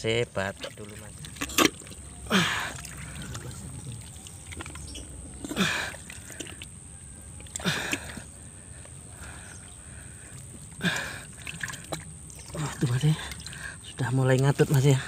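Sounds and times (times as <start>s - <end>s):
mud and water squelching: 0.0s - 15.0s.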